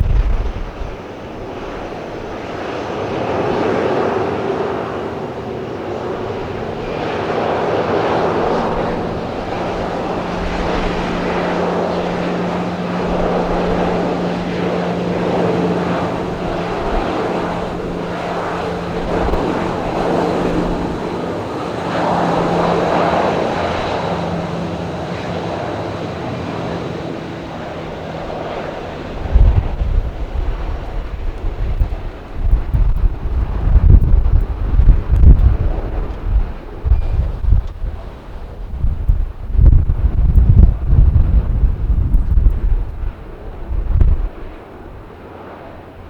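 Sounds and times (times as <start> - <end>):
jet engines running: 0.0 - 46.0
wind gust on microphone: 0.0 - 46.0.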